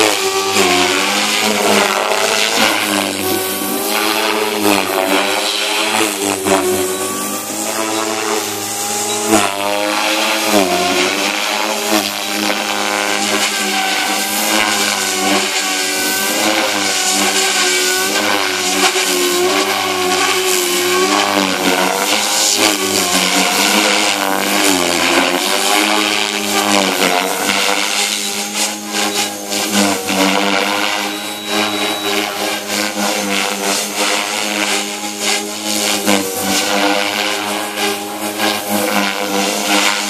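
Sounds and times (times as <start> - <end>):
model helicopter rotor whine: 0.0 - 40.0.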